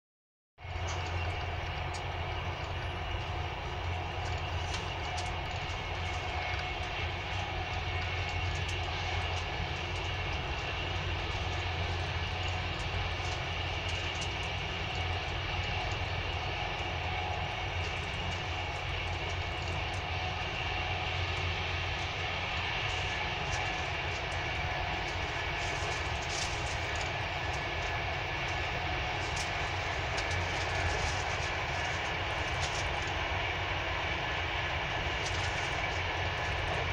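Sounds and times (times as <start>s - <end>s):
train rumble from inside: 0.6s - 36.9s.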